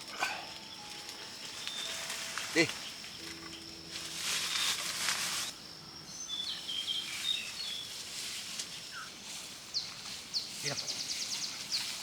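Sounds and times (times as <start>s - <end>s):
high insect drone: 0.0s - 12.0s
rustle through vegetation: 0.0s - 12.0s.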